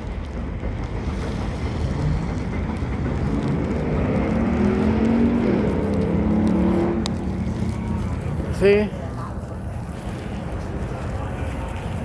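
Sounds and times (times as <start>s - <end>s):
rain and wind on microphone: 0.0s - 12.0s
vehicle engine drone passing: 0.0s - 12.0s.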